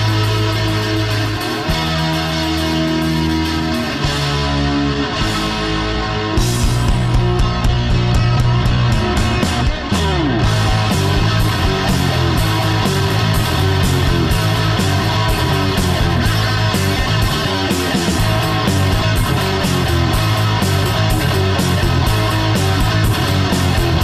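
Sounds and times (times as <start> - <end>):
guitar-led rock music: 0.0 - 24.0.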